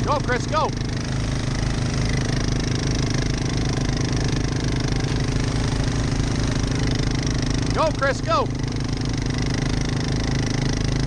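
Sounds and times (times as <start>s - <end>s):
atv engines running under load: 0.0s - 11.0s.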